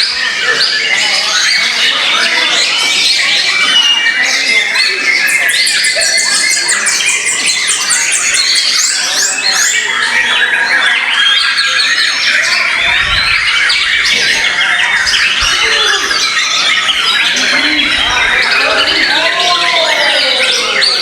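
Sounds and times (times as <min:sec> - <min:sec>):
birds singing warbles and whistles: 0:00.0 - 0:21.0.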